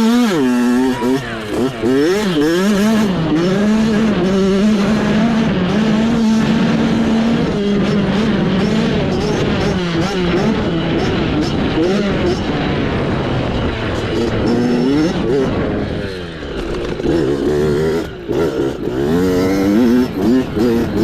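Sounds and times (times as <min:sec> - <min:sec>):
mini bike engine revving: 0:00.0 - 0:21.0.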